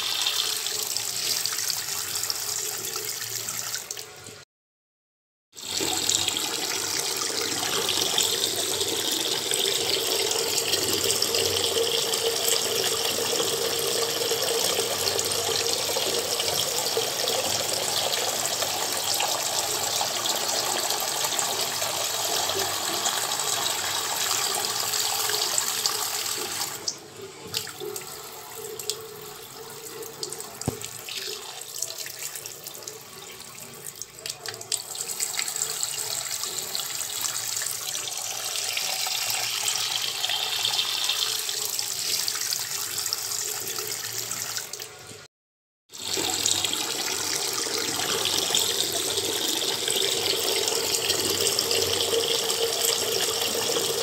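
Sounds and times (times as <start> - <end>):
water running: 0.0 - 4.4, 5.6 - 45.3, 46.0 - 54.0.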